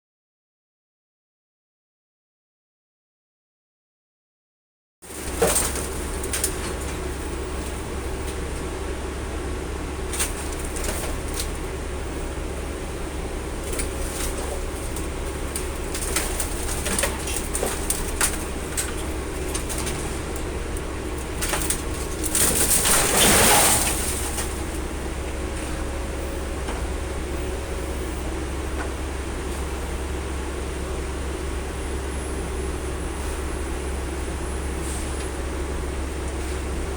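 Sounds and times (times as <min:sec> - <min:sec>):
baler machine humming: 0:05.2 - 0:36.9.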